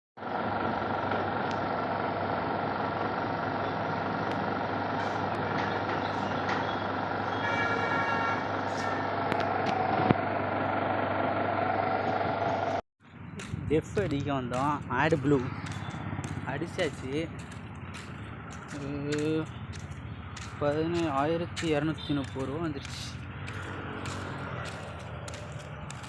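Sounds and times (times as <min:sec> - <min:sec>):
truck diesel engine running: 0:00.2 - 0:26.0.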